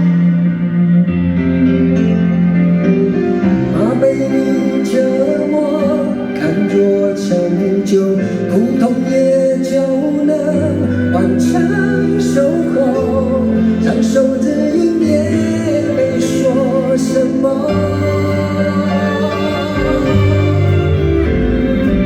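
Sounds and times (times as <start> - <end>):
live band music: 0.0 - 22.0.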